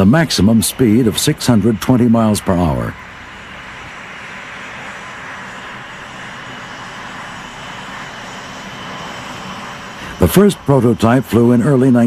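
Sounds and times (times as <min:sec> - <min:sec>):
jet engine running: 0:00.0 - 0:12.0.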